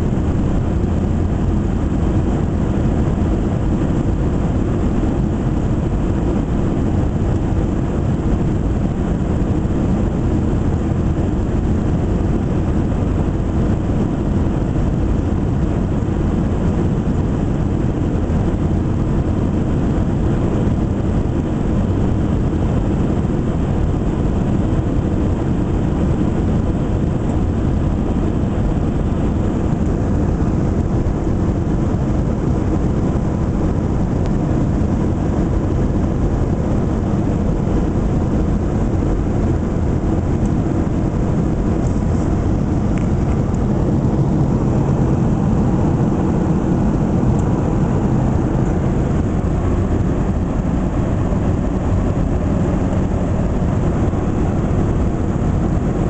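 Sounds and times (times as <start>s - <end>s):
airliner cabin jet engine roar: 0.0s - 56.0s.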